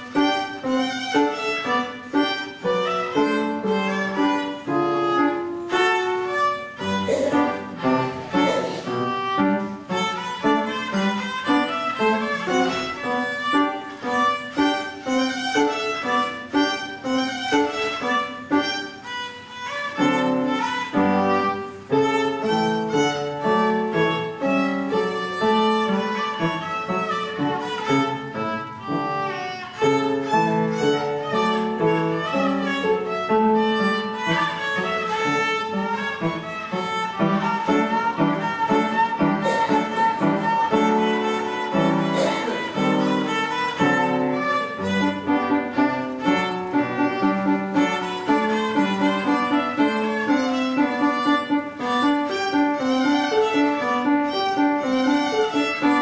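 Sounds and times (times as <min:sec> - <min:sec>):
piano accompaniment: 0:00.0 - 0:56.0
violin bowing melody: 0:00.0 - 0:56.0.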